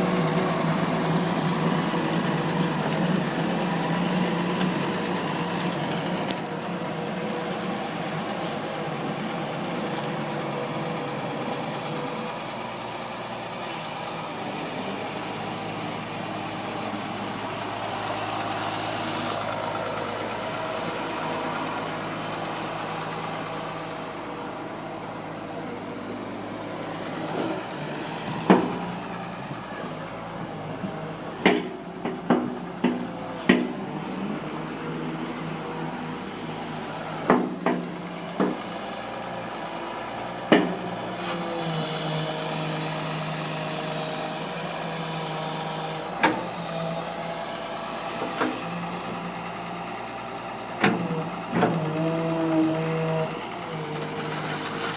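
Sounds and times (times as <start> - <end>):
excavator diesel engine idling: 0.0 - 54.9.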